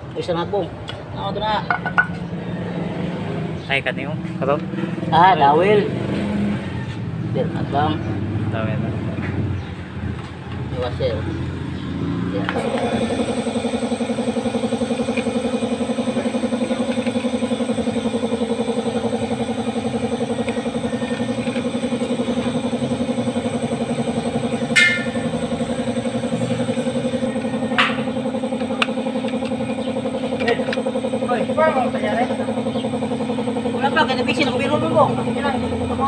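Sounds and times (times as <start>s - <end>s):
small engine idling: 0.0s - 36.0s.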